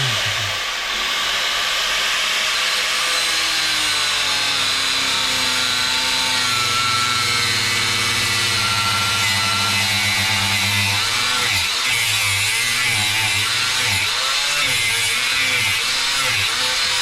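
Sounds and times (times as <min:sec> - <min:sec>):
angle grinder cutting metal: 0:00.0 - 0:17.0.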